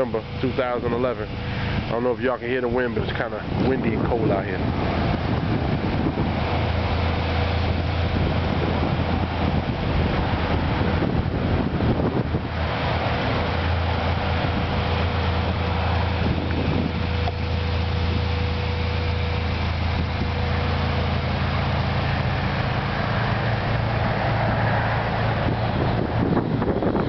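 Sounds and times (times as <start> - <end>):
vehicle engine idling: 0.0 - 27.0
wind on microphone: 0.0 - 27.0.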